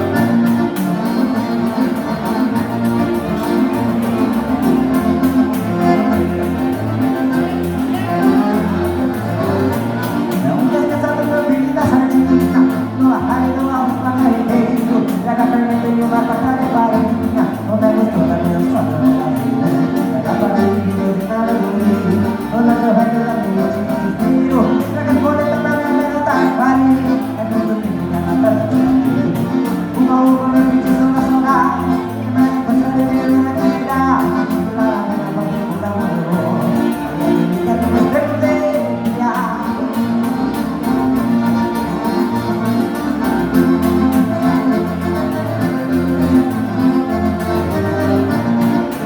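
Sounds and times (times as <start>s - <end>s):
button accordion dance music: 0.0s - 49.0s.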